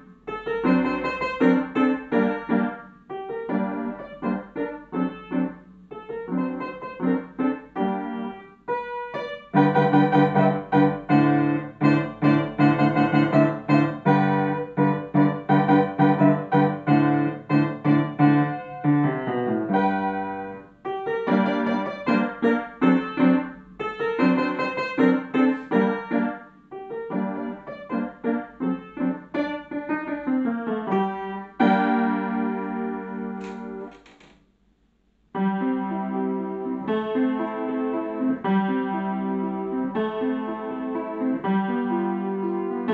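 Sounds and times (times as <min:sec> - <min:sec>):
solo piano piece: 0:00.0 - 0:34.2, 0:35.3 - 0:42.9.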